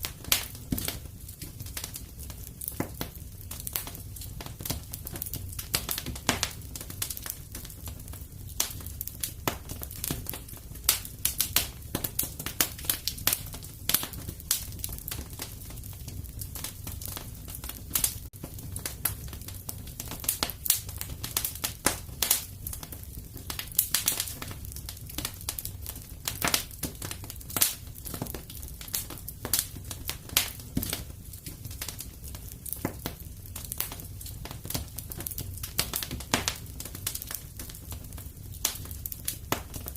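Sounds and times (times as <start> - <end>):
low roar of flames: 0.0 - 39.9
wood fire crackling: 0.0 - 39.9.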